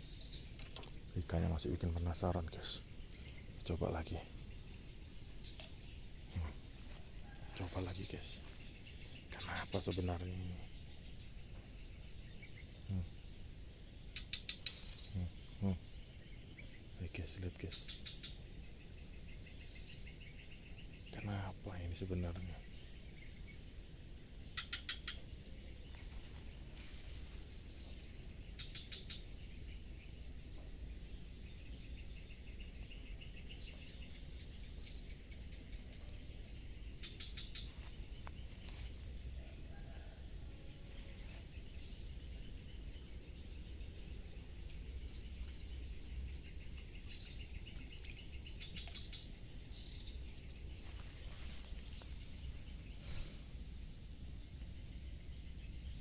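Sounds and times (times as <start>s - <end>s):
insect trills: 0.0s - 56.0s
insects droning: 0.0s - 56.0s.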